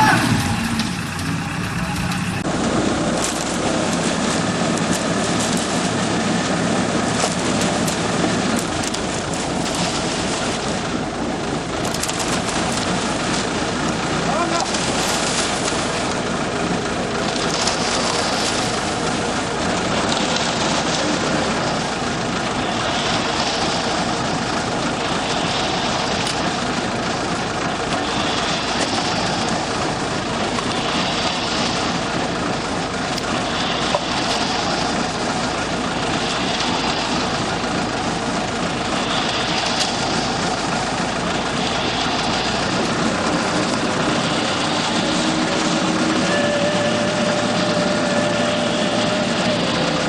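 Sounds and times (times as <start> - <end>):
concrete mixer truck running: 0.0 - 50.0.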